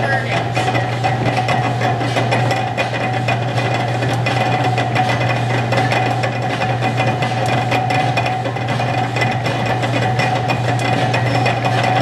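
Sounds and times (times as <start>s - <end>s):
belt-driven machinery hum: 0.0s - 12.0s
machinery whine: 0.0s - 12.0s.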